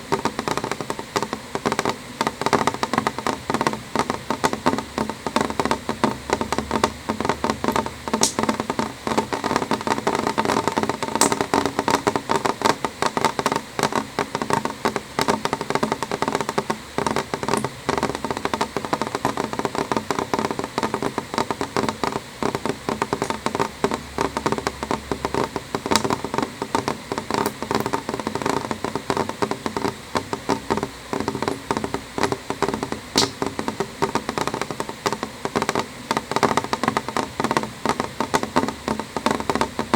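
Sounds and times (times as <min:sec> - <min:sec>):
rain pattering on window glass: 0:00.0 - 0:39.9.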